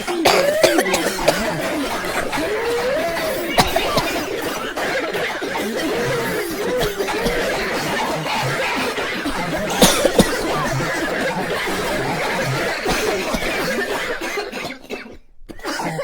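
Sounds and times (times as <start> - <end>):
crowd talking and laughing: 0.0 - 14.8.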